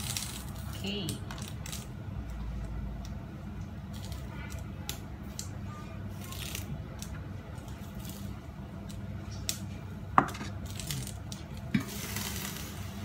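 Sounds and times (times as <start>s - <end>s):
gas burner humming: 0.0s - 13.0s.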